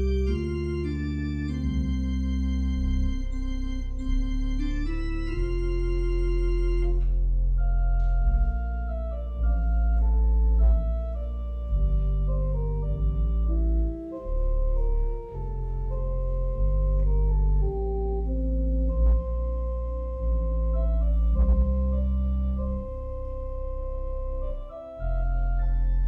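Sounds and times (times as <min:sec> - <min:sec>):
organ playing chords: 0:00.0 - 0:26.0.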